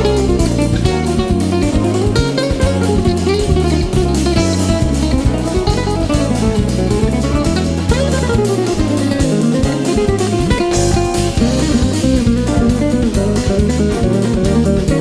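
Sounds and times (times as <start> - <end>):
guitar-led instrumental music: 0.0 - 15.0
moving bass line: 0.0 - 15.0.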